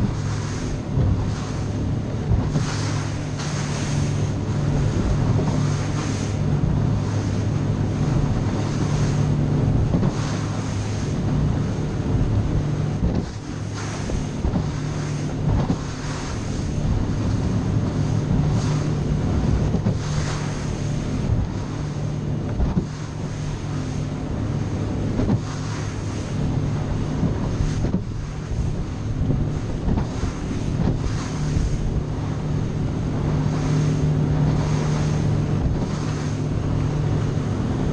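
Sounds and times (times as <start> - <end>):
outboard motor droning: 0.0 - 37.9
water slapping against hull: 0.0 - 37.9
wind buffeting microphone: 0.0 - 37.9.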